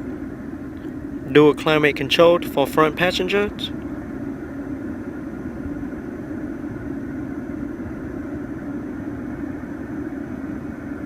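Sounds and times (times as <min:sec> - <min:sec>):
climate control fan blowing: 0:00.0 - 0:11.0.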